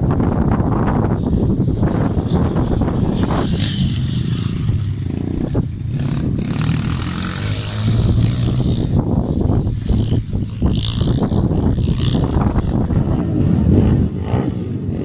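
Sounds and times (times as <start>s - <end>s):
wind buffeting microphone: 0.0s - 15.0s
small motorbike engine revving: 0.9s - 15.0s.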